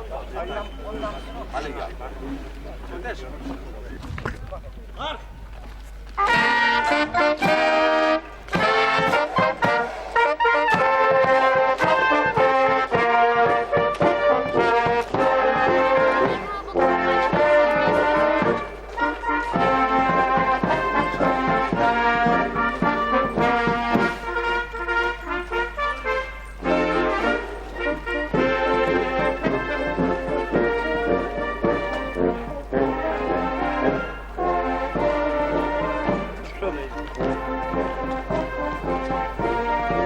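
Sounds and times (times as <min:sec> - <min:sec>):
brass band playing: 0:00.0 - 0:03.8, 0:06.2 - 0:40.0.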